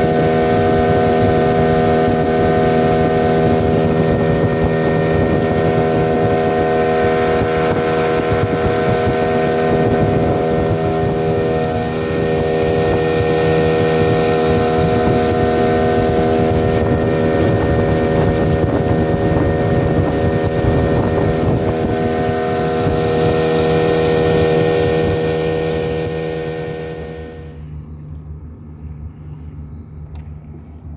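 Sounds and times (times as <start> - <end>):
wind and water noise: 0.0 - 27.9
outboard motor drone: 0.0 - 30.9.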